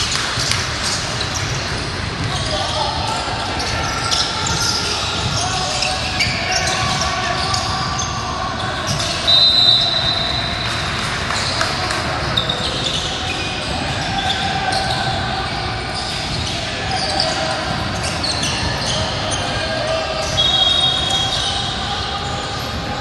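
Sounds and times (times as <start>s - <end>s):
sneakers squeaking on hardwood: 0.0s - 22.4s.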